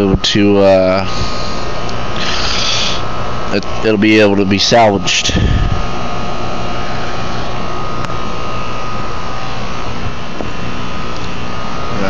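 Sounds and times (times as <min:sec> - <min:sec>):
fan motor whirring: 0:00.0 - 0:12.0
high whine: 0:00.0 - 0:12.0.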